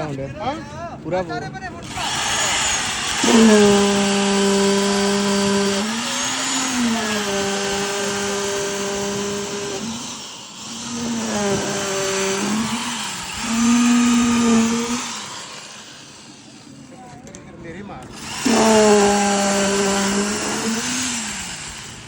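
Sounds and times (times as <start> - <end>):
concrete vibrator motor hum: 0.0 - 22.0.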